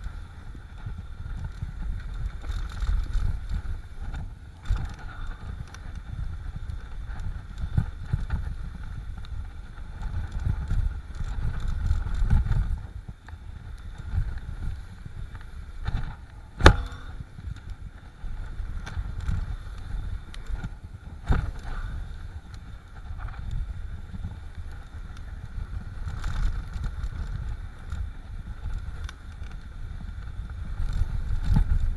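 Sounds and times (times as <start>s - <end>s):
mountain bike rolling on dirt: 0.0s - 31.9s
wind buffeting microphone: 0.0s - 31.9s.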